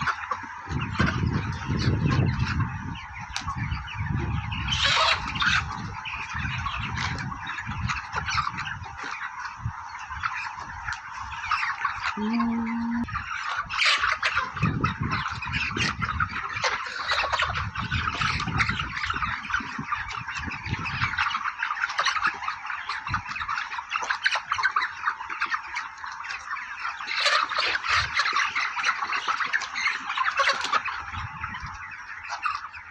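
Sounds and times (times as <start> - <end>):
chickens calling: 0.0 - 32.9.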